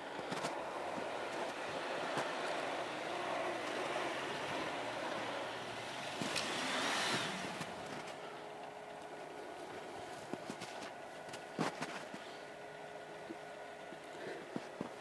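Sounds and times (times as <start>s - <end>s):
rising engine whine: 0.0s - 15.0s
suv engine running: 0.0s - 15.0s.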